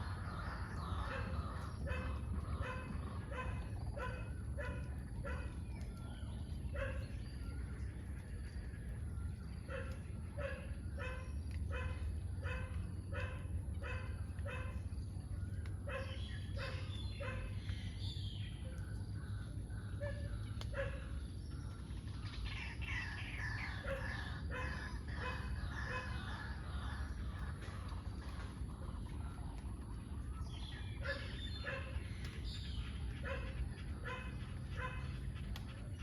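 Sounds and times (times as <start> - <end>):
birds chirping chorus: 0.0 - 36.0.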